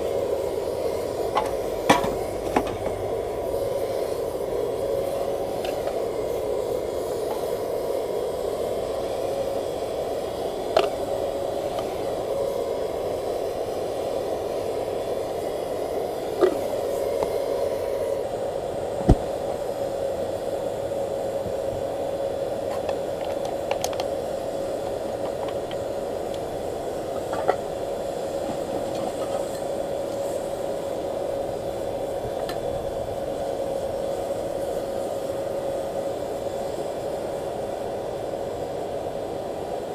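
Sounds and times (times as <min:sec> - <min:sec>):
air blower whining: 0:00.0 - 0:39.9.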